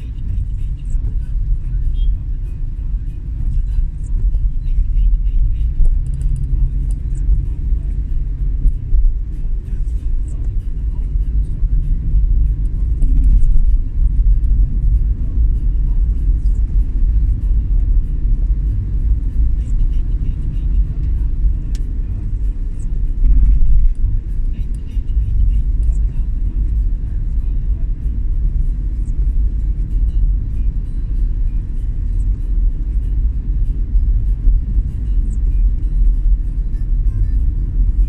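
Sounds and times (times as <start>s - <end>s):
vehicle driving on road: 0.0s - 38.0s.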